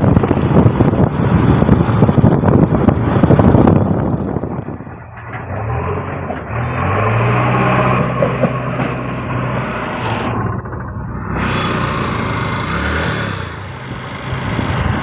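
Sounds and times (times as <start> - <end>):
backhoe diesel engine revving: 0.0 - 15.0.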